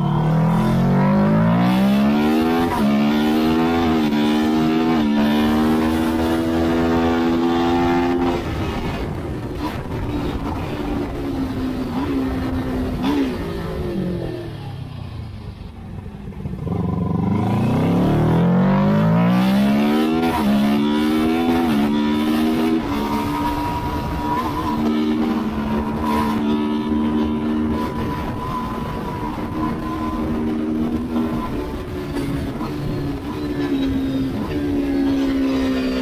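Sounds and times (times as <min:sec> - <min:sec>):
racing motorcycle engine accelerating: 0:00.0 - 0:36.0.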